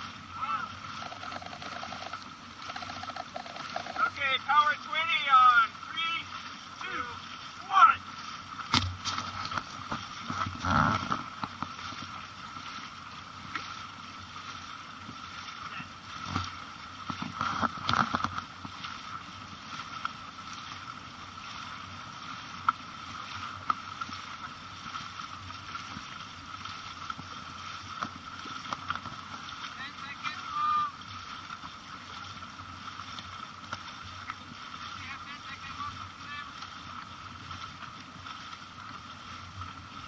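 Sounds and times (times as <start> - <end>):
water rushing and splashing: 0.0 - 40.0.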